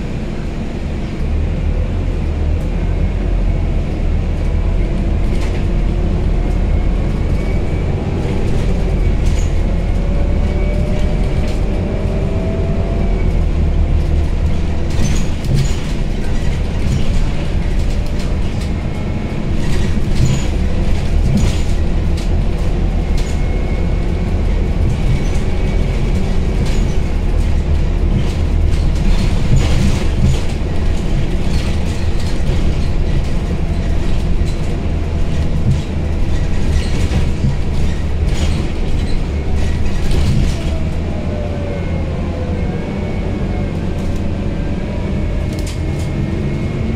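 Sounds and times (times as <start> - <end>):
bus engine rumble: 0.0 - 46.9
road noise: 0.0 - 46.9.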